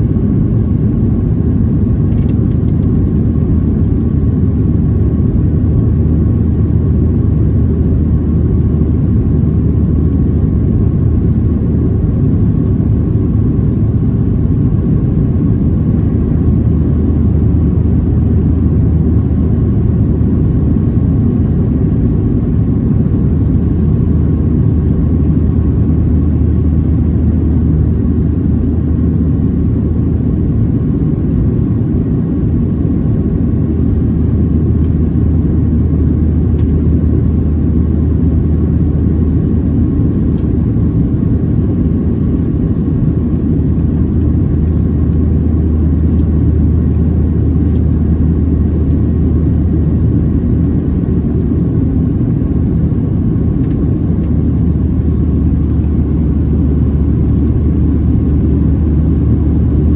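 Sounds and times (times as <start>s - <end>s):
airplane cabin low drone: 0.0s - 59.9s
faint steady hum: 0.0s - 59.9s.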